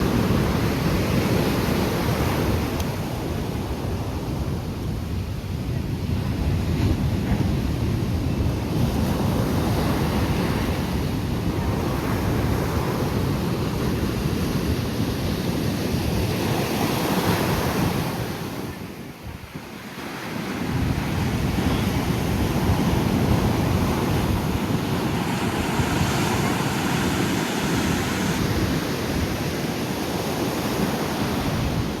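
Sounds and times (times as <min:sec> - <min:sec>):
sea waves surging onto shore: 0:00.0 - 0:32.0
wind buffeting microphone: 0:00.0 - 0:32.0.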